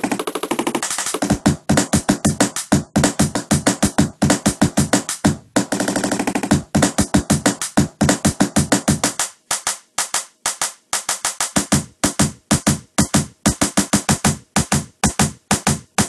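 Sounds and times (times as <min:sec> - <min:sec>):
stuttering electronic beat: 0:00.0 - 0:16.0.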